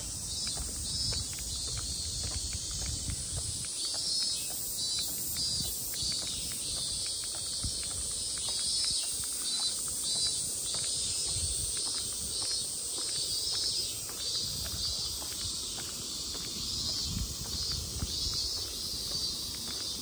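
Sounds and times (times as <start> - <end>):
cicadas chorus: 0.0 - 20.0
faint footsteps: 0.0 - 20.0.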